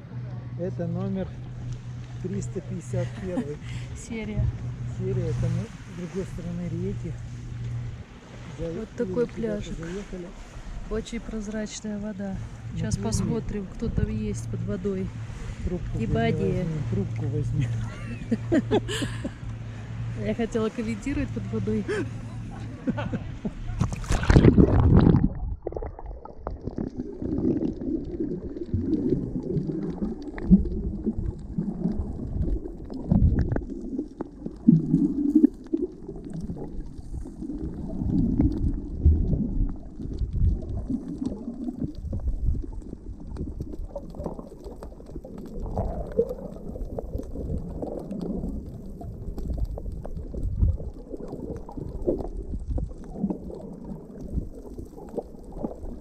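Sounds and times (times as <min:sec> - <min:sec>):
underwater water sloshing: 0:00.0 - 0:56.0.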